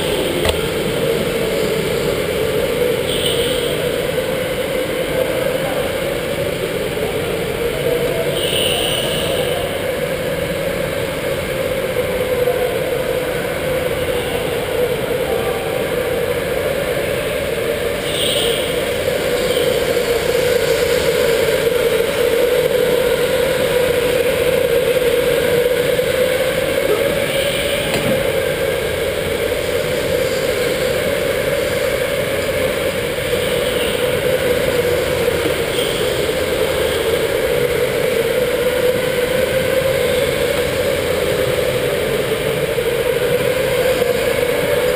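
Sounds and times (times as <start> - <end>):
electric go-kart motor whining: 0.0 - 44.9.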